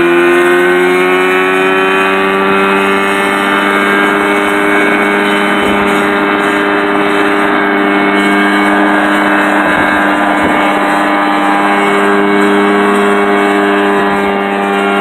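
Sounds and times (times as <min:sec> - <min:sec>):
helicopter engine running: 0:00.0 - 0:15.0
spinning helicopter rotor: 0:00.0 - 0:15.0.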